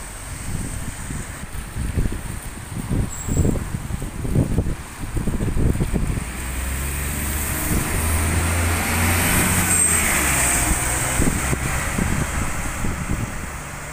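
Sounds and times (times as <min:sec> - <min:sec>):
bus engine droning: 0:00.0 - 0:13.9
tyres hissing on wet road: 0:00.0 - 0:13.9
wind buffeting microphone: 0:00.0 - 0:13.9.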